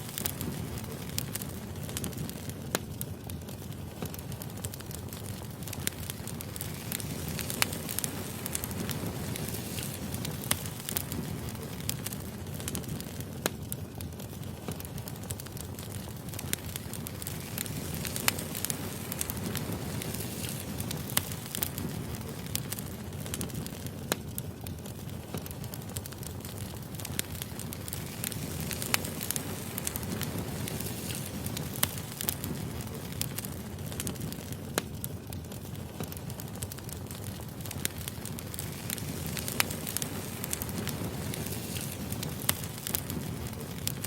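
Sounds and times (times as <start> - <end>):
firewood crackling: 0.0 - 44.0.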